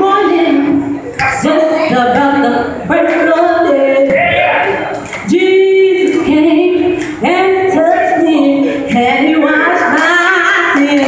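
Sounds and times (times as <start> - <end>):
vocal group singing a cappella: 0.0 - 11.0.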